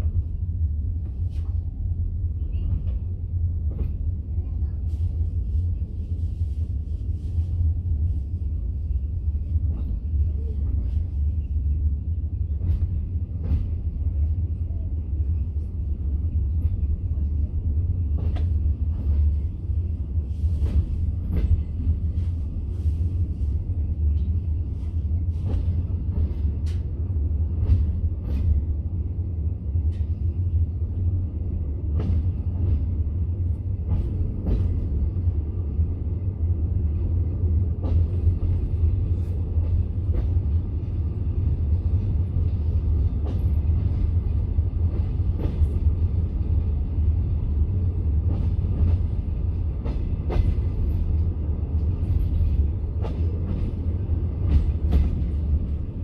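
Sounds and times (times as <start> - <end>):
train running gear rumble: 0.0 - 56.0.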